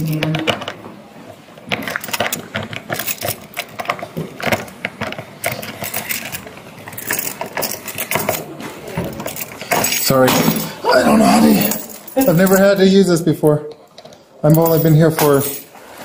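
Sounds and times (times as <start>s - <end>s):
keys clicking and rattling in lock: 1.7s - 12.9s, 13.9s - 15.7s.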